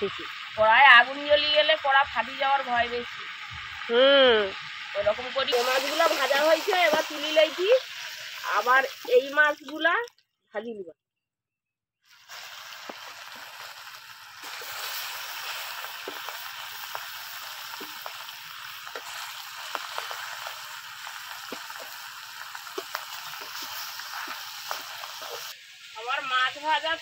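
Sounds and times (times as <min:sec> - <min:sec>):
fish frying in hot oil: 0:00.0 - 0:10.1, 0:12.0 - 0:27.0
oil popping and crackling: 0:00.0 - 0:10.3, 0:12.0 - 0:25.6.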